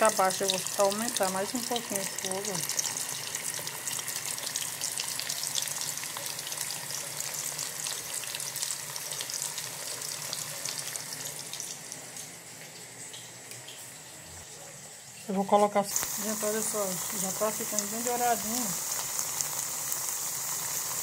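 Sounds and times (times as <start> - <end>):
food sizzling in hot oil: 0.0 - 12.2, 15.2 - 21.0.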